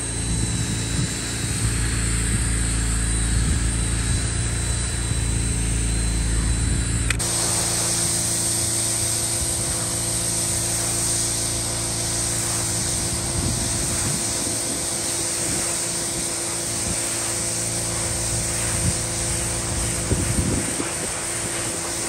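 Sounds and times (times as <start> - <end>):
pressure washer jet hissing: 0.0 - 22.0
washer motor and pump hum: 0.0 - 22.0.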